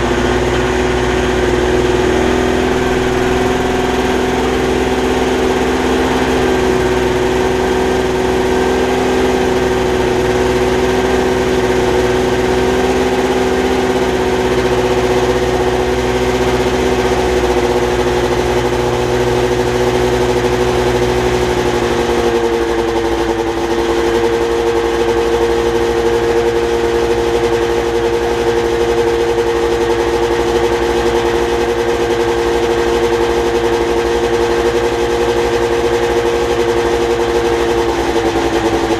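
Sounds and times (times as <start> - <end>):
snowmobile two-stroke engine running: 0.0 - 38.9.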